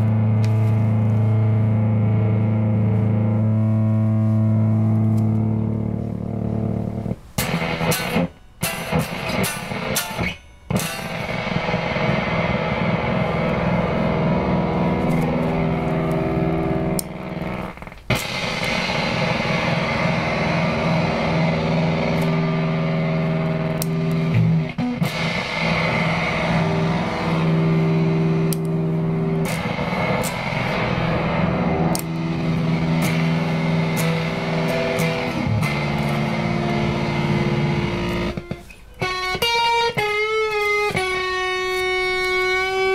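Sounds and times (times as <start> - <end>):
electric guitar long held notes: 0.0 - 42.9.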